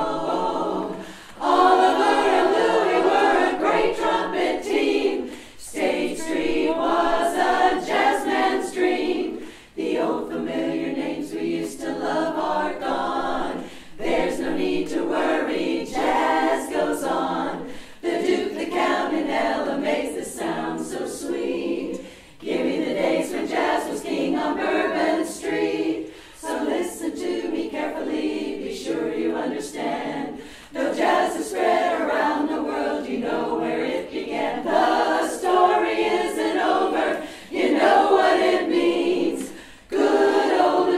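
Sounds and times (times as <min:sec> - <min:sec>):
women's chorus singing a cappella: 0:00.0 - 0:40.9.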